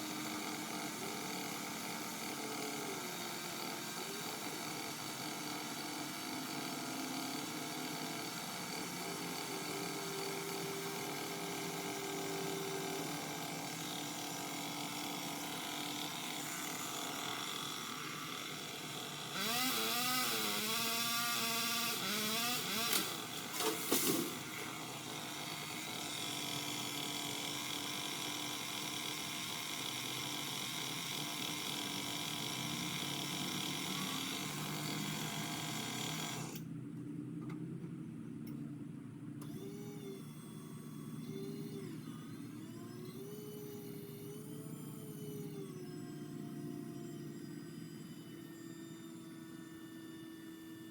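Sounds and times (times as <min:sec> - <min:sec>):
power cutter motor running: 0:00.0 - 0:36.7, 0:39.4 - 0:50.9.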